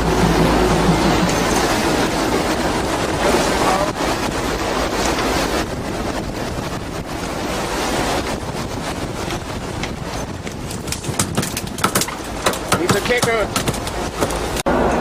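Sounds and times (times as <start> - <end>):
wind buffeting microphone: 0.0 - 14.6
sea water noise: 0.0 - 15.0.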